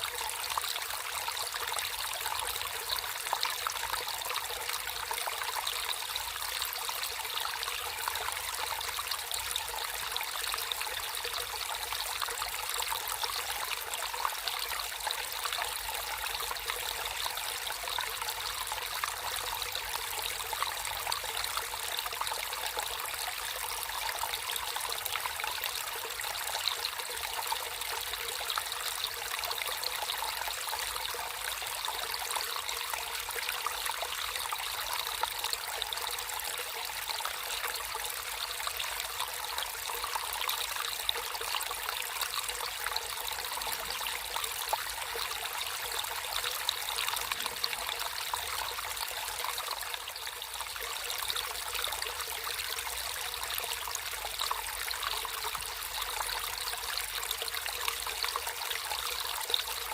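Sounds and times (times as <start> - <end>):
stream water trickling and splashing: 0.0 - 59.9.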